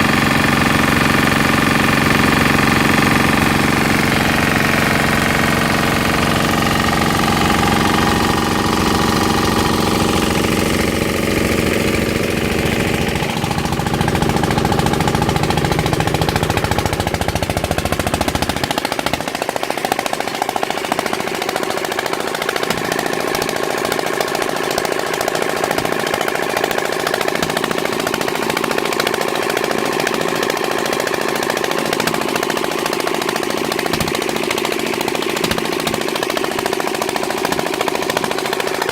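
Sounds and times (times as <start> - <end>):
diesel engine rumbling: 0.0 - 38.9
engine knocking: 0.0 - 38.9.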